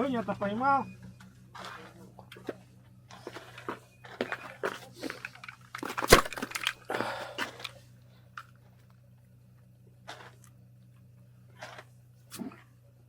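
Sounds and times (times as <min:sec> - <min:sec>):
low steady hum: 0:00.0 - 0:13.0
crunching and scraping handling noise: 0:01.2 - 0:09.3, 0:10.0 - 0:12.8.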